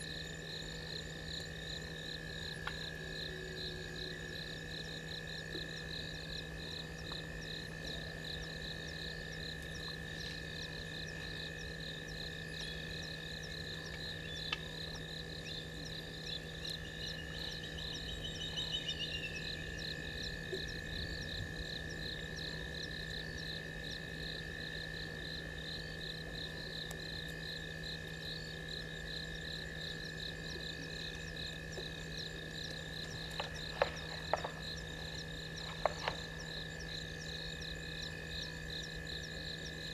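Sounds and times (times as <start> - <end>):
frogs and insects chorus: 0.0 - 39.9.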